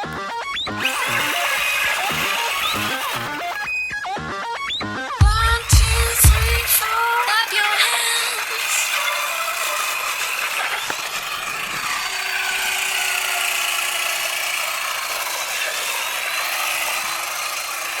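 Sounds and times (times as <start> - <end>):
electric rc car rasping: 0.0 - 4.8, 5.4 - 18.0.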